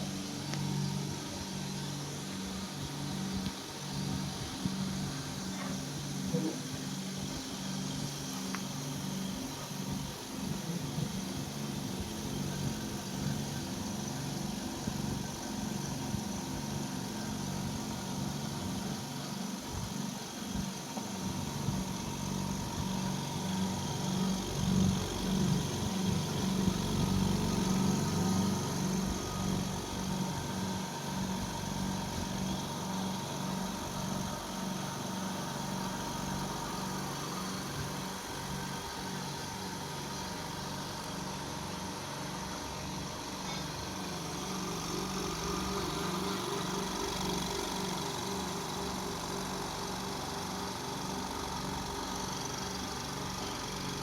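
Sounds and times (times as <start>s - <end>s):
electric air compressor running: 0.0s - 54.0s.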